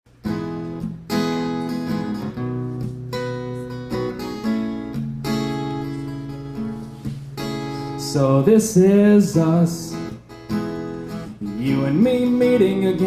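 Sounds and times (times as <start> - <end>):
acoustic guitar strumming: 0.1 - 13.0.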